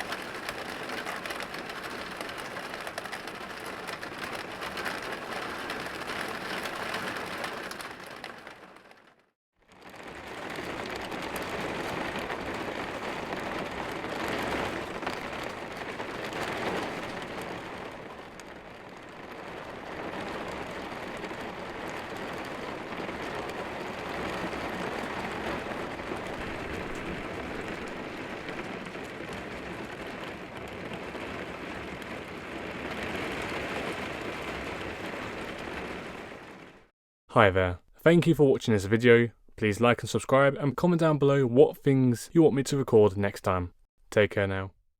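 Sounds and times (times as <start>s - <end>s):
rain on a window pane: 0.0s - 39.0s.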